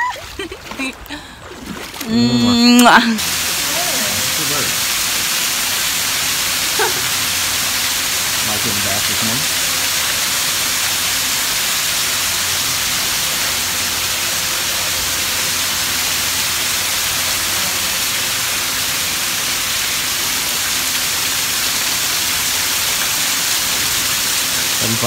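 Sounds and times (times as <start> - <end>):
waterfall splashing over rocks: 0.0 - 25.0.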